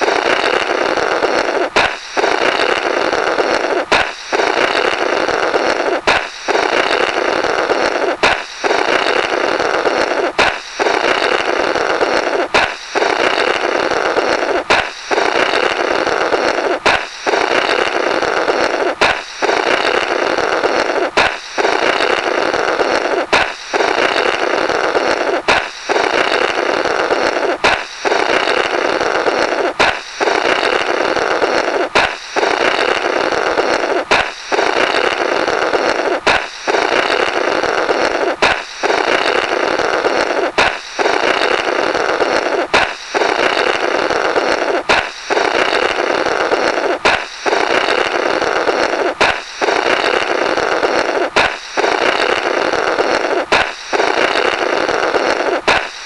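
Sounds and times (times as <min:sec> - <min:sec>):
balloon pop: 0:00.0 - 0:07.2, 0:07.8 - 0:50.3, 0:50.9 - 0:52.4, 0:53.0 - 0:56.0
raspy blow through rubber: 0:00.0 - 0:56.0.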